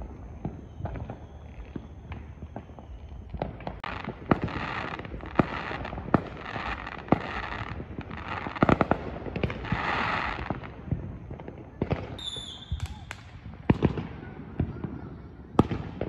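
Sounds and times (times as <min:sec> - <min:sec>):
hissing crackle: 0:00.0 - 0:13.5.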